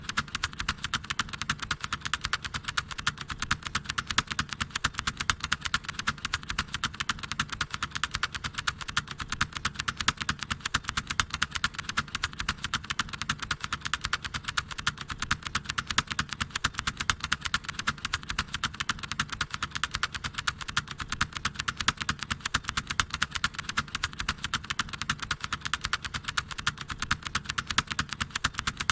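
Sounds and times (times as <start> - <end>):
fast typing on mechanical keyboard: 0.0 - 28.9.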